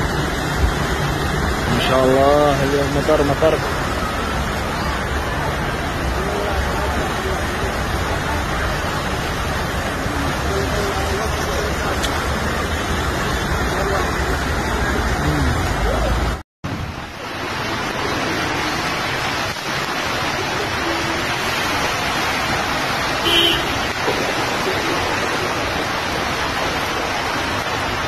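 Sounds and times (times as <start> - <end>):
floodwater rushing: 0.0 - 28.0
heavy rain pouring on street: 0.0 - 28.0.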